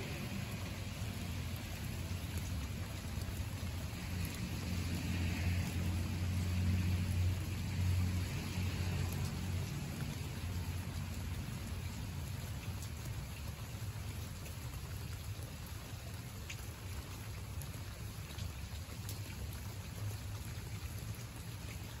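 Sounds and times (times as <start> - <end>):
rain on foliage: 0.0 - 22.0.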